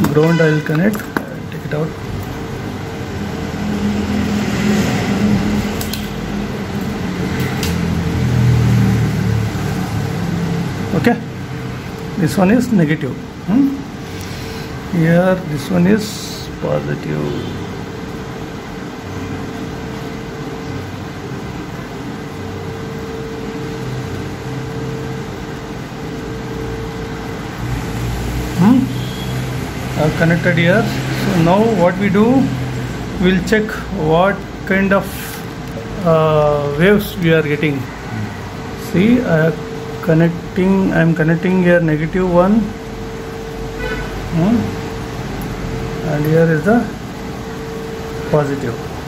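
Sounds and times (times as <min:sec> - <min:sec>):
faint constant tone: 0:00.0 - 0:49.0
low mechanical hum: 0:00.0 - 0:49.0.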